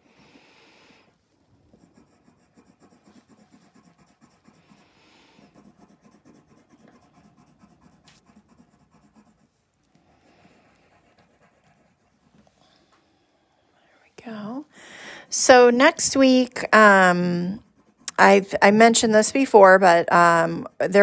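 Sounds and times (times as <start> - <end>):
pencil scratching on paper: 1.0 - 12.9, 15.4 - 21.0.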